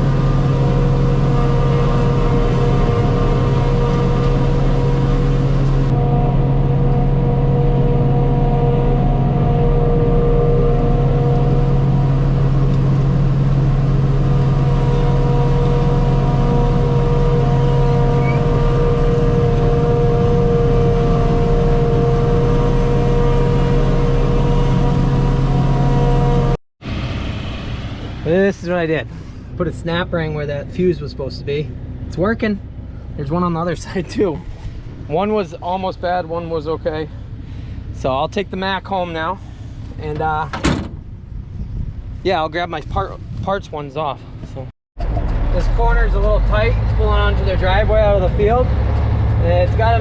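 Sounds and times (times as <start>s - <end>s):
harvesting machinery droning: 0.0s - 41.5s, 45.0s - 50.0s.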